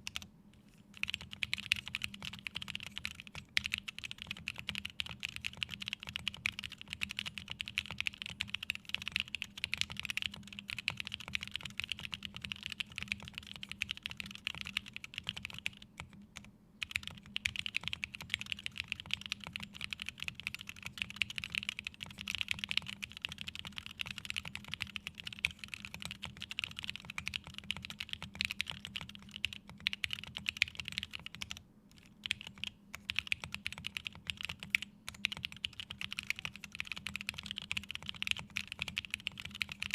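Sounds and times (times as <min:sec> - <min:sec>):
mechanical keyboard typing: 0:00.0 - 0:00.3, 0:01.0 - 0:39.9.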